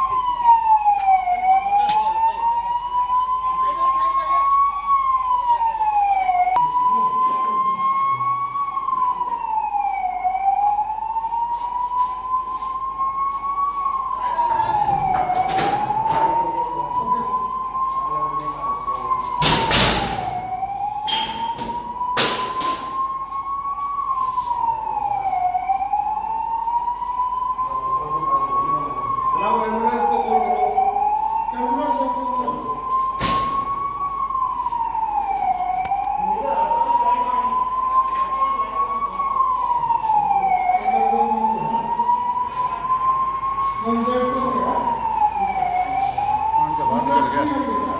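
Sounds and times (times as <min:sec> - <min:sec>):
emergency siren wailing: 0:00.0 - 0:47.9.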